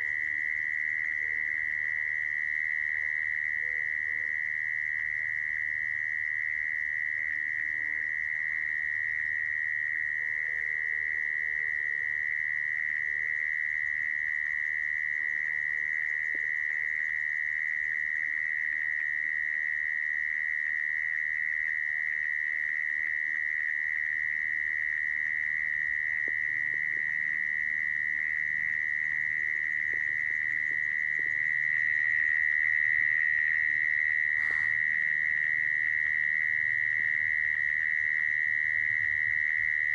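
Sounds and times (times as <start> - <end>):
mole cricket trill: 0.0 - 39.9.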